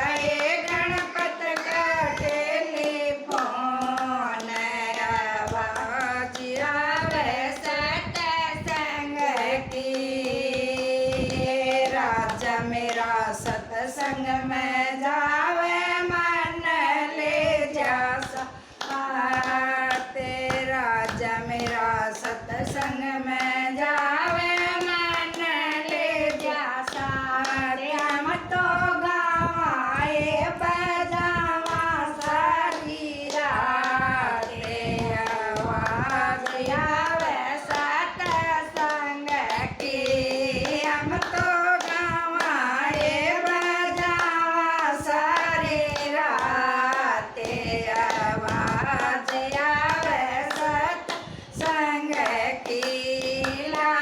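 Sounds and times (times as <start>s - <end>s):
hand clapping: 0.0s - 54.0s
woman singing devotional song: 0.0s - 54.0s.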